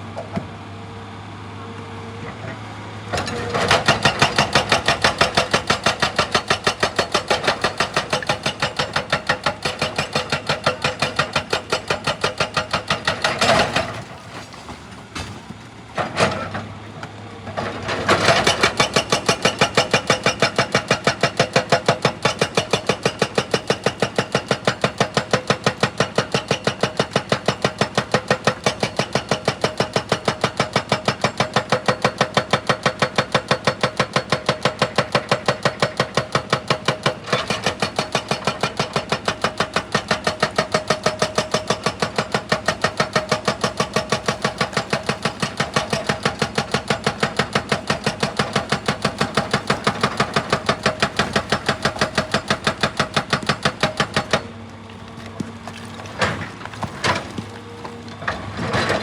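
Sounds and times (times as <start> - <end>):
hydraulic breaker hammering: 3.2 - 14.4, 18.0 - 59.0.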